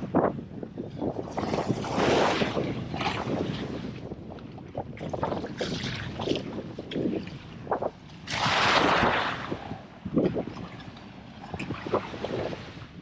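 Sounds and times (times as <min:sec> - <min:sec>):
wind buffeting microphone: 0:00.0 - 0:13.0
sea washing: 0:01.2 - 0:13.0.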